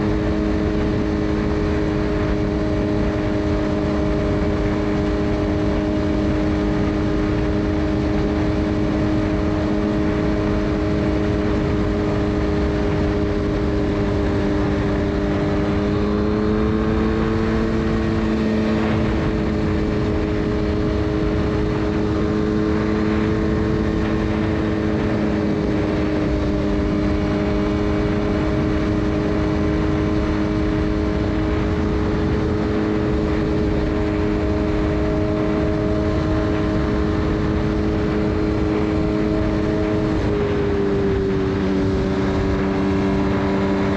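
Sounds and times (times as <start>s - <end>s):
motorcycle engine cruising: 0.0s - 43.9s
rushing wind noise: 0.0s - 43.9s.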